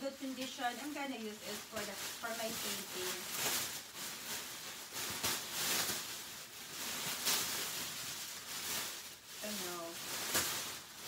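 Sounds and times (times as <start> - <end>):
cellophane wrap crackling: 0.0 - 11.0.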